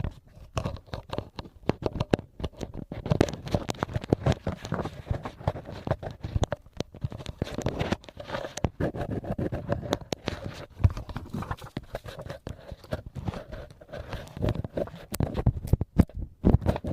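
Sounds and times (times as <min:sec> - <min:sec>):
crinkly material crackling: 0:00.0 - 0:16.9.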